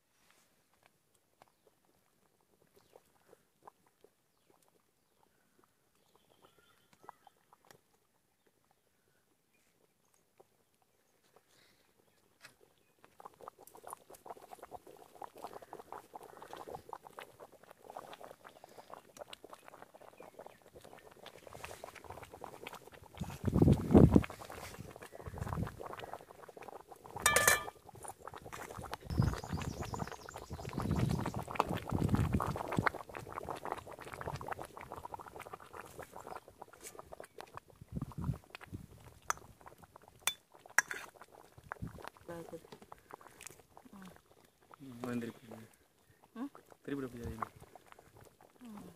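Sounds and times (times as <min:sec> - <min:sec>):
gravy bubbling in a pan: 0:00.0 - 0:48.9.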